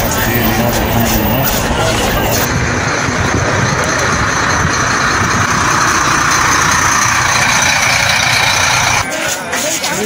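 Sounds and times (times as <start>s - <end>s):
bus engine rumbling: 0.0s - 9.7s.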